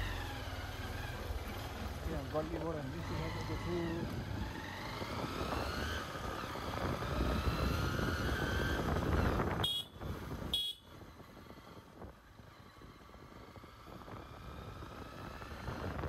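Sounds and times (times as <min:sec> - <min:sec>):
motorcycle engine accelerating: 0:00.0 - 0:16.0
road and wind noise: 0:00.0 - 0:16.0.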